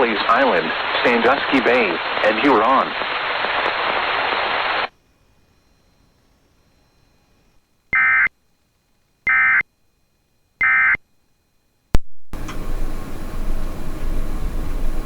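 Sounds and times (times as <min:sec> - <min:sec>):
loud static noise: 0:00.0 - 0:15.0.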